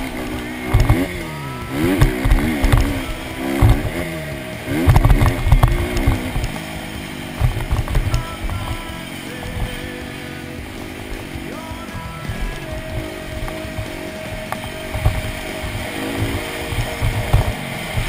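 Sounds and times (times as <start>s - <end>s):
dirt bike engine revving: 0.0s - 18.0s
low thumps from rough ground: 0.0s - 18.0s.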